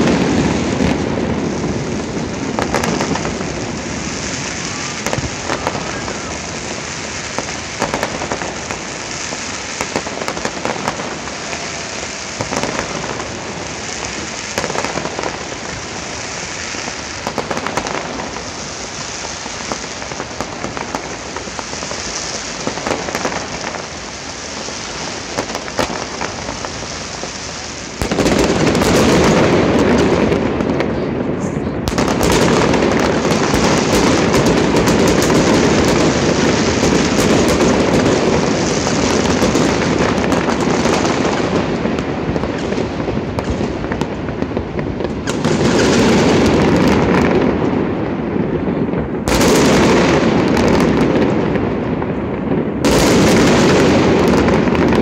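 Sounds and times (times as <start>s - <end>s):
firework bangs: 0.0s - 55.0s
fireworks crackling: 0.0s - 55.0s.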